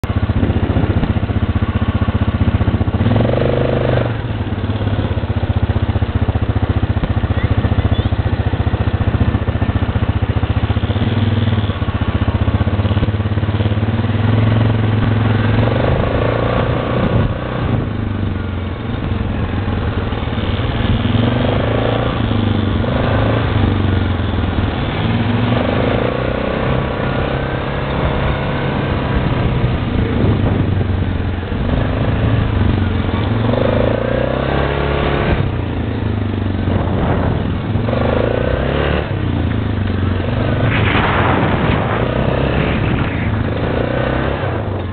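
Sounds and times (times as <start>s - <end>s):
quad bike engine revving: 0.0s - 44.9s.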